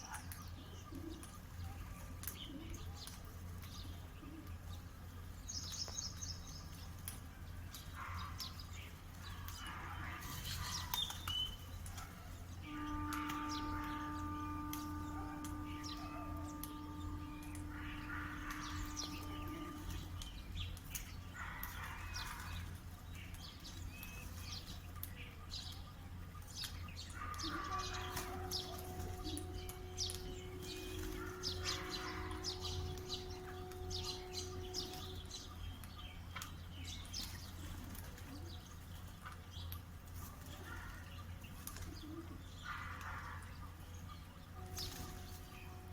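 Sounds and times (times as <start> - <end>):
low hum: 0.0 - 25.8, 26.4 - 40.4
birds chirping: 0.0 - 45.9.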